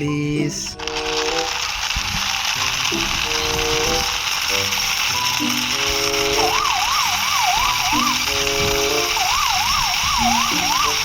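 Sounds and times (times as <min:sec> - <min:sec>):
background music: 0:00.0 - 0:11.0
electronic police siren: 0:00.8 - 0:11.0.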